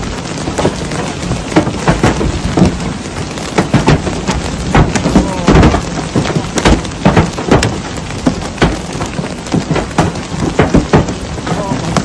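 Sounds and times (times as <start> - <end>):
hail and rain hissing: 0.0 - 12.0
hailstones knocking: 0.0 - 12.0.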